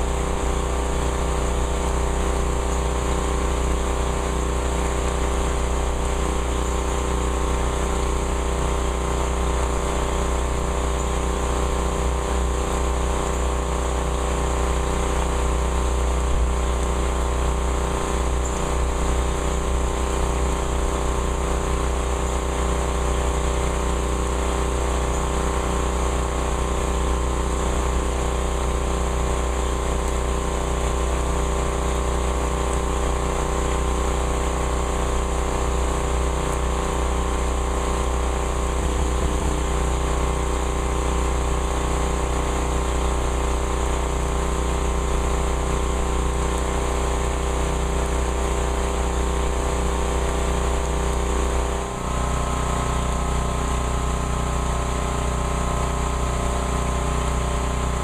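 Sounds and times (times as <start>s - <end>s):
motor humming: 0.0s - 58.0s.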